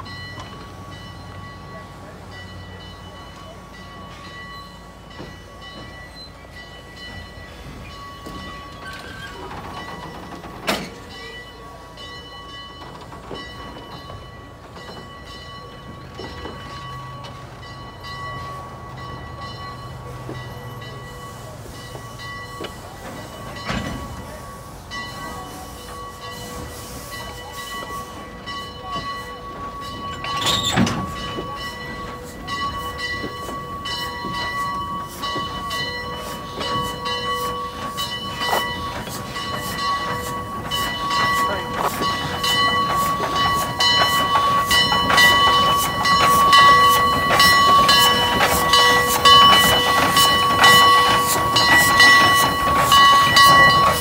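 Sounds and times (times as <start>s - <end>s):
steam train rolling on rails: 0.0s - 54.0s
high ringing from wheels: 2.3s - 54.0s.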